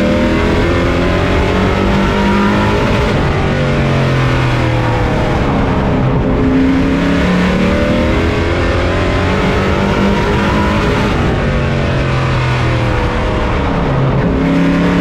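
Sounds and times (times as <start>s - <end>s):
race truck engine revving: 0.0s - 15.0s.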